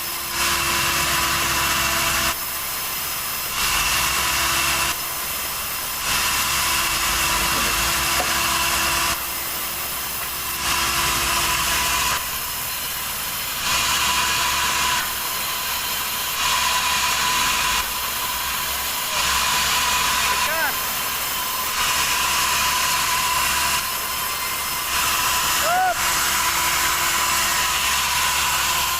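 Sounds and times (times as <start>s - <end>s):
sawmill saw cutting log: 0.0s - 28.9s
steady machine whine: 0.0s - 28.9s.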